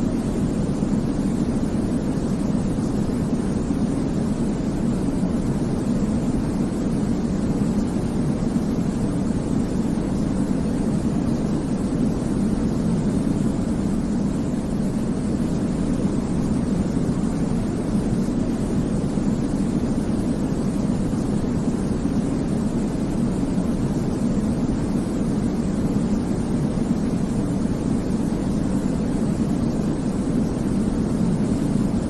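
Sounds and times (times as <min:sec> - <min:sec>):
steady white noise hiss: 0:00.0 - 0:32.0.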